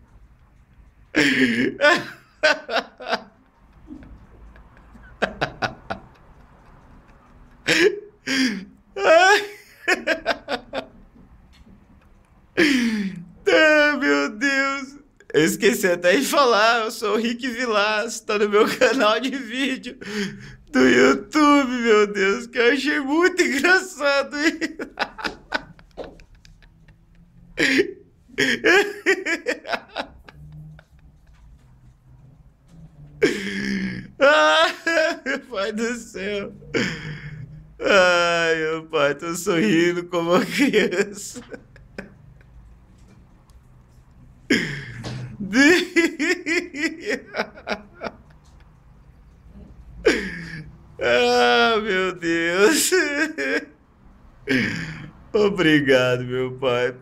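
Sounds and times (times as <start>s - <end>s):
man laughing: 1.1s - 11.0s, 12.6s - 31.6s, 33.2s - 43.1s, 44.5s - 48.8s, 49.9s - 53.8s, 54.4s - 55.2s.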